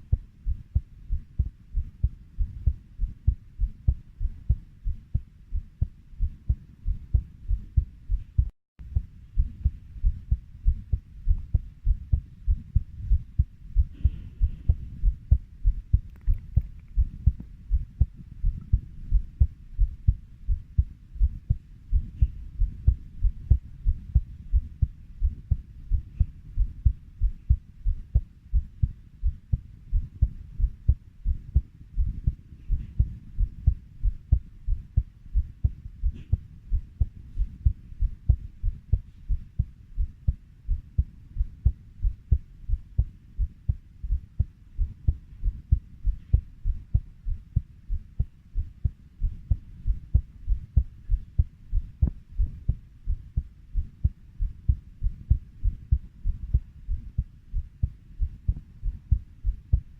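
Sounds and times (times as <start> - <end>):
heartbeat thumping: 0.0 - 59.9.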